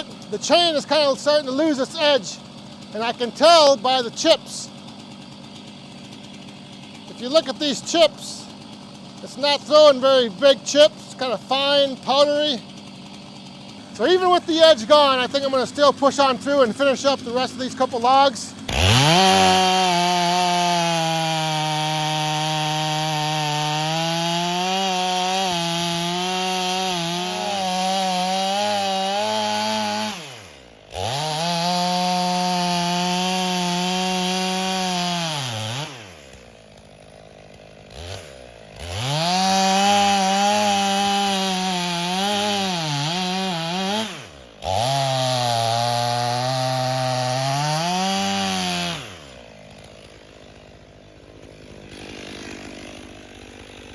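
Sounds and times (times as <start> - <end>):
chainsaw cutting logs: 0.0 - 53.9.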